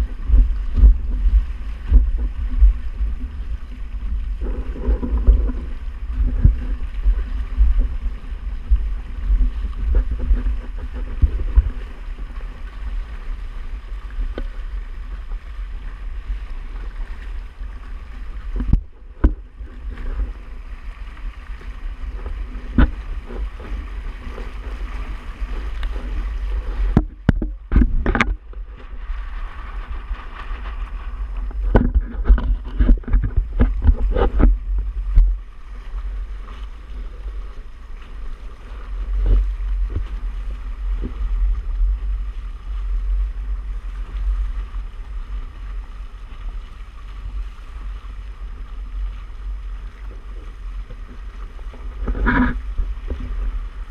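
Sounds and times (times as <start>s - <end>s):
water rushing against hull: 0.0s - 53.9s
wind buffeting microphone: 0.0s - 53.9s.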